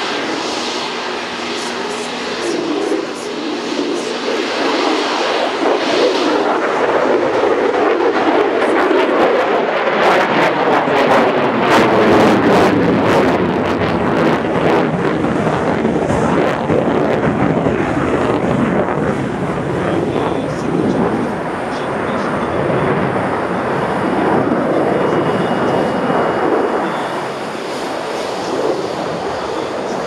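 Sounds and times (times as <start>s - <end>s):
jet fighter passing overhead: 0.0s - 30.0s.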